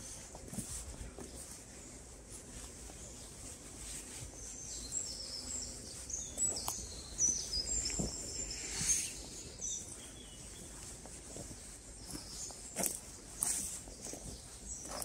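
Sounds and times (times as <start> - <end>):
footsteps on forest floor: 0.0 - 15.0
songbird chirping: 2.6 - 15.0.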